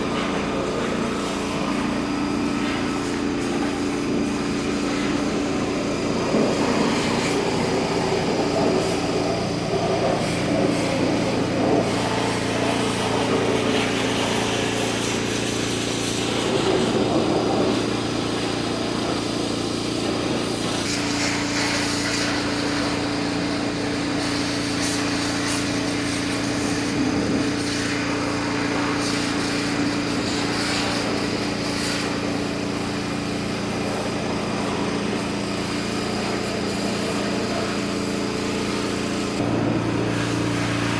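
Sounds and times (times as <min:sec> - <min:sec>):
mini digger engine running: 0:00.0 - 0:40.9.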